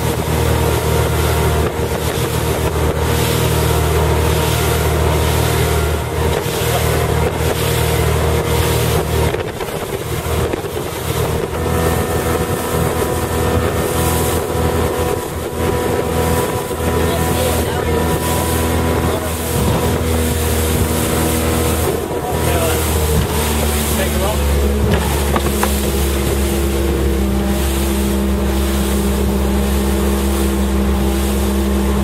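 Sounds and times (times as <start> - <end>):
motorboat engine droning: 0.0 - 32.0
wind buffeting microphone: 0.0 - 32.0.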